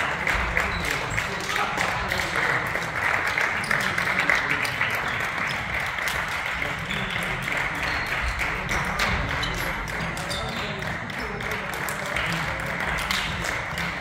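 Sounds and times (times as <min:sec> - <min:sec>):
spectators clapping: 0:00.0 - 0:14.0.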